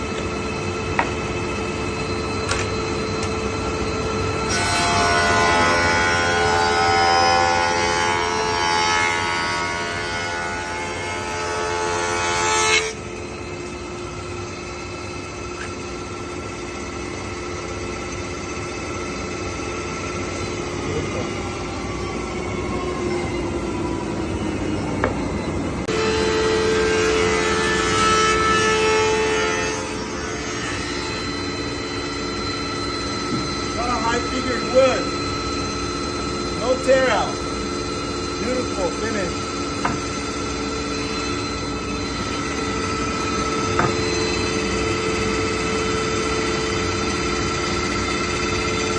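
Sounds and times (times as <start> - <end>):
planer cutting board whine: 0.0 - 48.9.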